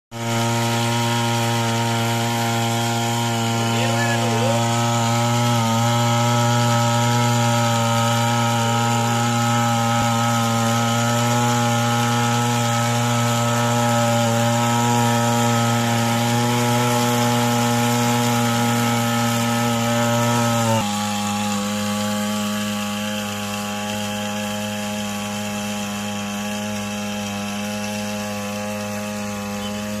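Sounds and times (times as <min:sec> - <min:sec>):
two-stroke power sprayer engine: 0:00.1 - 0:30.0.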